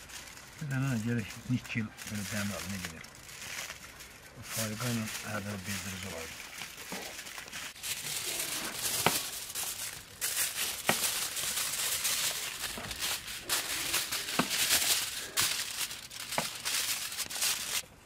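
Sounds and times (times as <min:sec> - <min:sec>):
sharp clicks of foil: 0:00.0 - 0:17.8
aluminium foil crinkling: 0:00.0 - 0:17.9.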